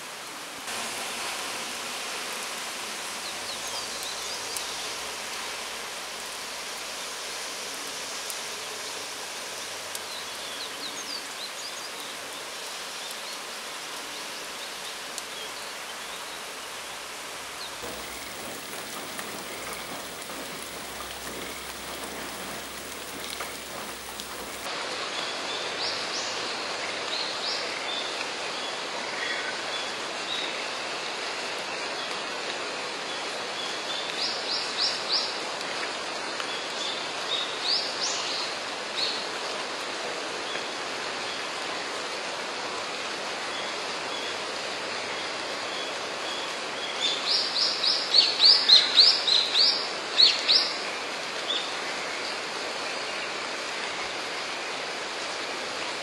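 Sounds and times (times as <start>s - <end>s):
rain falling on water: 0.0s - 56.0s.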